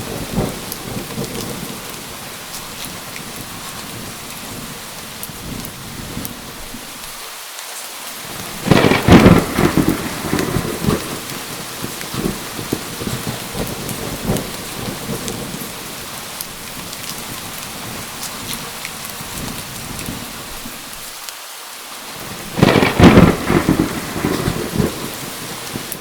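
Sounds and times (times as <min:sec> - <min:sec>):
thunder crack and rumble: 0:00.0 - 0:06.8, 0:08.3 - 0:20.8, 0:22.2 - 0:26.0
heavy rain falling: 0:00.0 - 0:26.0.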